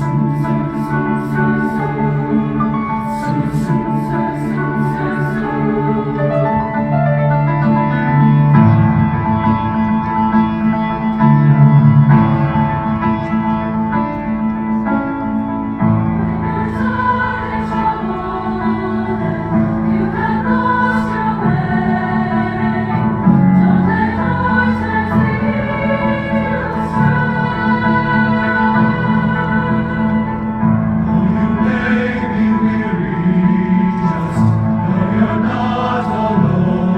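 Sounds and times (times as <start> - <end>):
choir singing: 0.0 - 36.9
piano accompaniment: 0.0 - 36.9.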